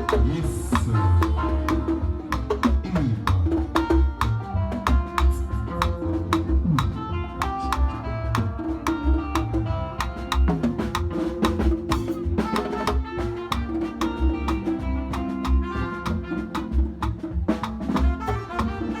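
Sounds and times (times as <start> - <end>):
latin music with drums and bass: 0.0 - 19.0.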